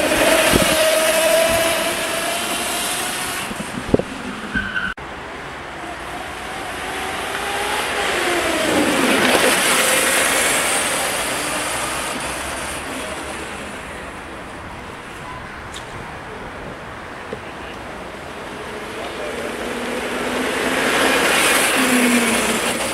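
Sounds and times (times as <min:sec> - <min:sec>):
electric kart whine passing: 0:00.0 - 0:15.2, 0:18.0 - 0:22.9.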